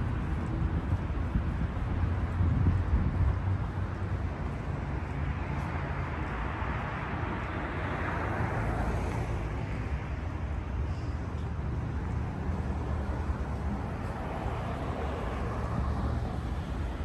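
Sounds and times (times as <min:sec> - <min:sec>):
low traffic rumble: 0:00.0 - 0:17.0
passing car tyre noise: 0:00.0 - 0:17.0.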